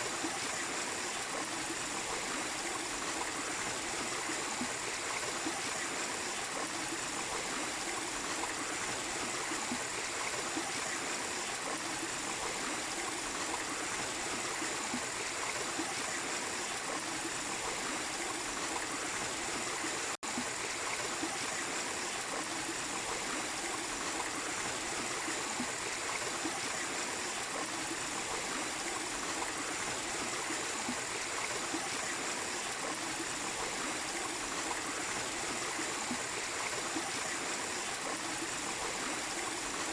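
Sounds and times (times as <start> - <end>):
small waterfall and stream: 0.0 - 39.9.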